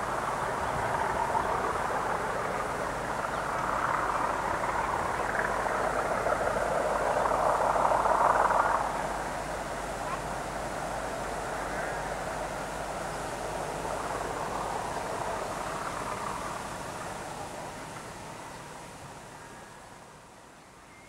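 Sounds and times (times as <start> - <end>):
distant train passing: 0.0 - 21.0.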